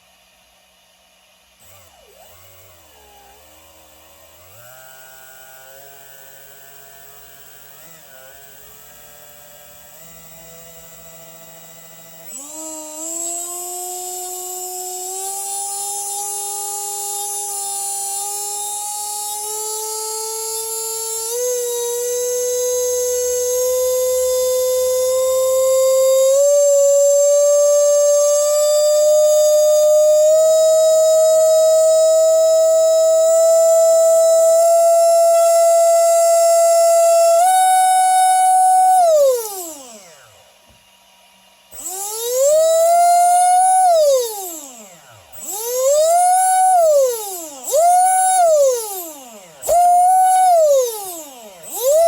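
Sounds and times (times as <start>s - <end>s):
electric motor whining: 1.6s - 52.0s.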